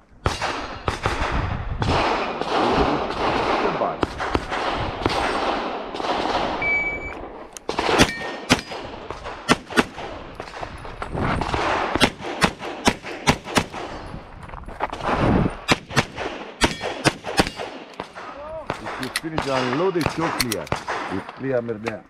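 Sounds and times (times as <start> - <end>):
pistol shots: 0.2 - 6.6, 7.6 - 10.7, 11.4 - 14.0, 15.6 - 21.4.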